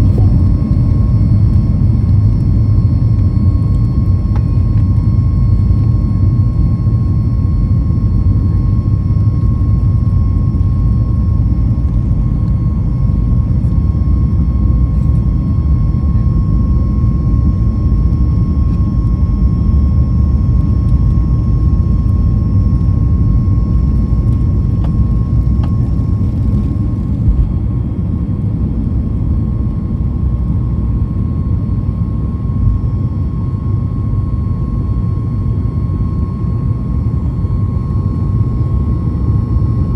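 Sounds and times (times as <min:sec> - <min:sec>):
jet engines at high thrust: 0:00.0 - 0:39.9.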